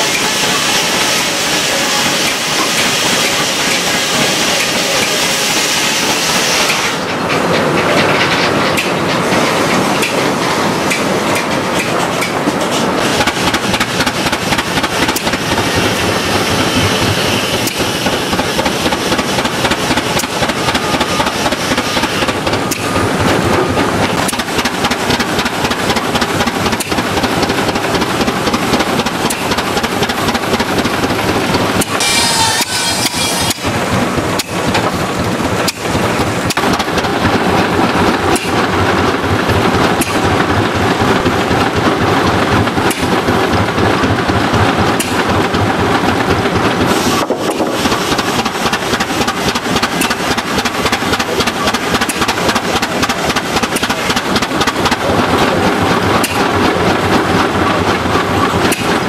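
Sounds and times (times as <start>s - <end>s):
sawmill hissing rush: 0.0s - 59.0s.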